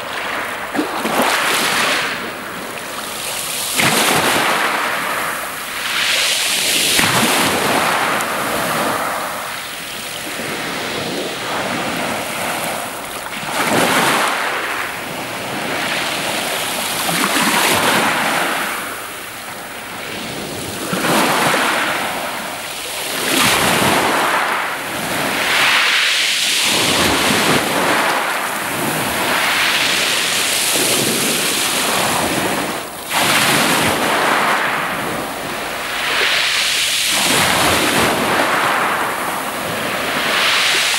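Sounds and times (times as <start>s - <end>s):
waves washing on pebble beach: 0.0s - 40.9s.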